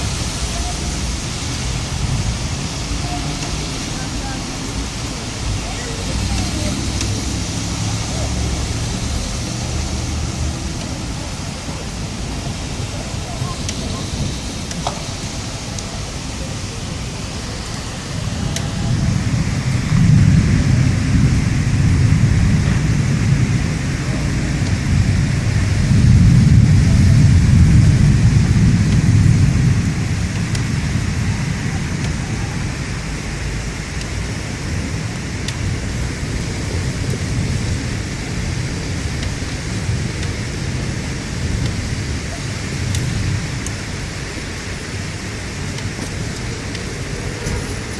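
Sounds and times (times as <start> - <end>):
heavy rain: 0.0 - 47.9
rolling thunder: 0.0 - 47.9.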